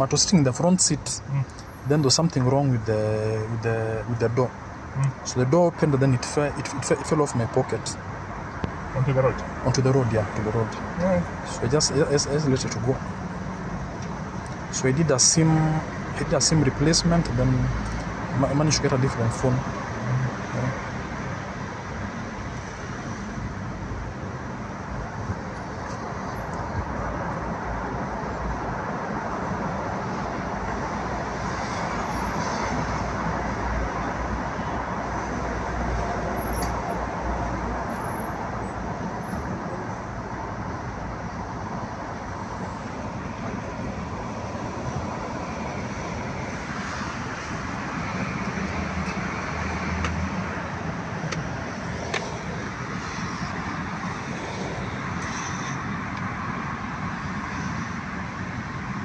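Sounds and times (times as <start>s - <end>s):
road traffic rumble in car: 0.0s - 59.0s.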